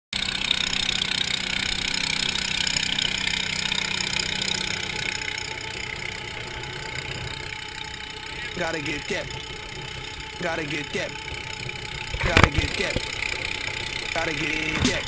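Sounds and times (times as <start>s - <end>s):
motorboat engine hum: 0.1s - 15.0s.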